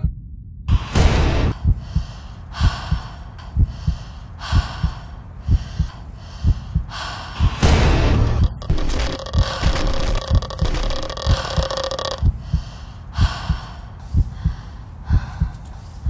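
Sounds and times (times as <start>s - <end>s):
low rhythmic thumping: 0.0s - 15.7s
woman breathing heavily: 1.5s - 16.0s.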